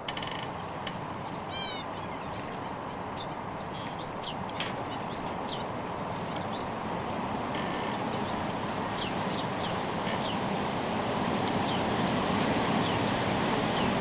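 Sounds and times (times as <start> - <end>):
small birds chirping: 0.6 - 7.4, 8.0 - 10.5, 11.6 - 14.0.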